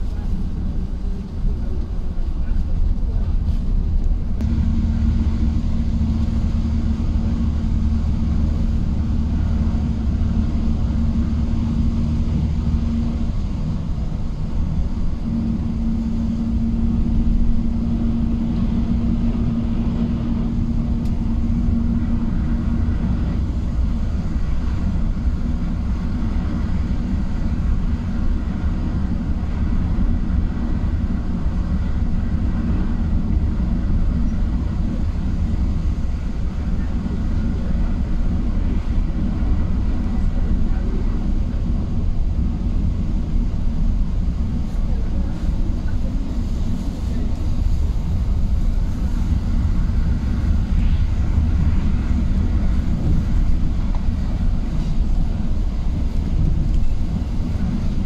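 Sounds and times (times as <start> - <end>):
vehicle engine rumble: 0.0 - 58.0.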